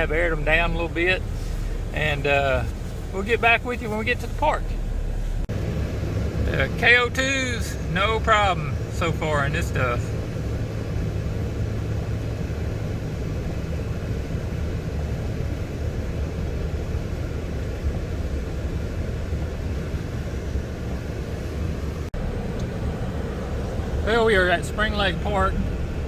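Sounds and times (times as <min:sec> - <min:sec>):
vehicle engine and tyres rumbling: 0:00.0 - 0:26.0.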